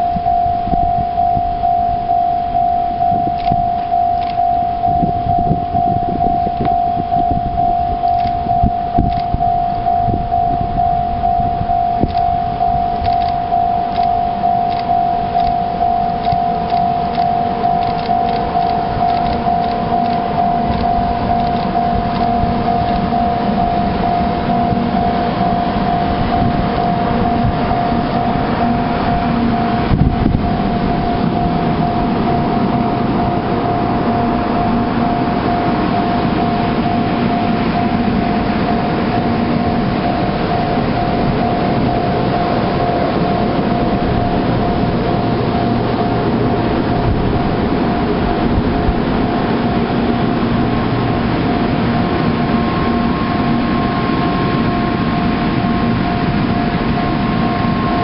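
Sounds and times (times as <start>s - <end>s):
constant hum: 0.0s - 58.0s
train rumbling: 0.0s - 58.0s.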